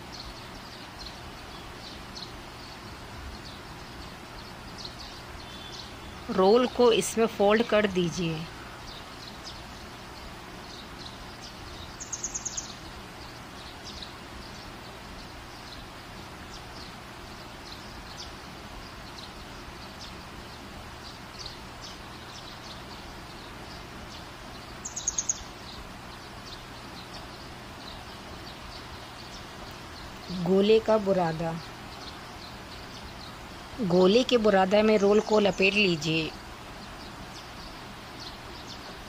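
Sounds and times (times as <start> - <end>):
birds chirping: 0.0 - 39.0
steady low hiss: 0.0 - 39.0.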